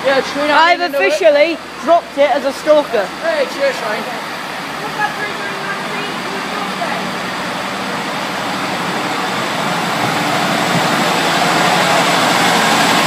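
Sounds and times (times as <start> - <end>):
diesel railcar engine running: 0.0 - 13.0.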